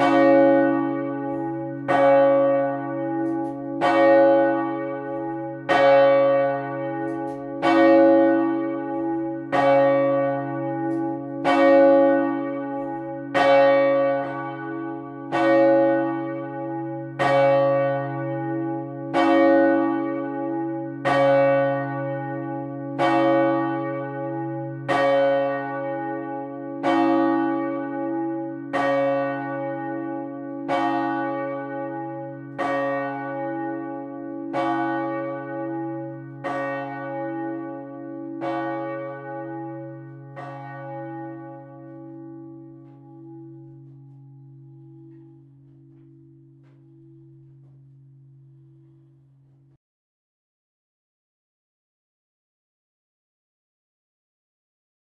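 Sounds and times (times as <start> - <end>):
large church bell ringing: 0.0 - 49.8.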